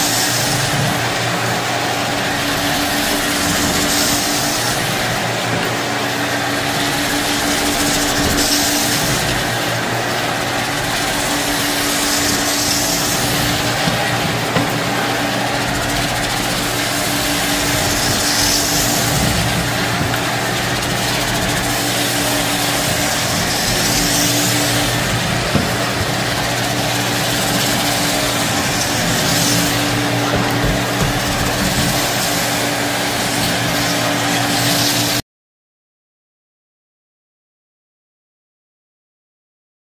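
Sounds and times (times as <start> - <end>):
vacuum cleaner on carpet: 0.0 - 35.2.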